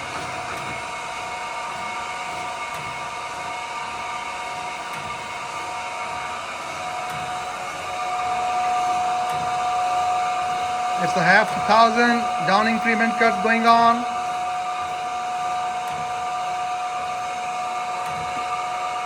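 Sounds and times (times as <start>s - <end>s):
surface grinder whining: 0.0s - 19.0s.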